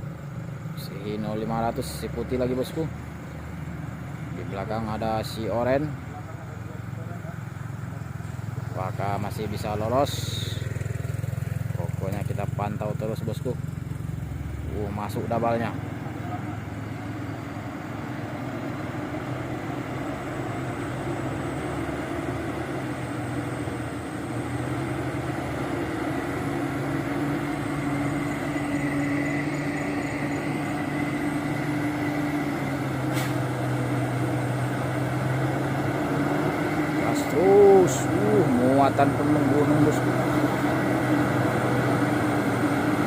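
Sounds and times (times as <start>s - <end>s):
diesel truck engine labouring: 0.0s - 43.0s.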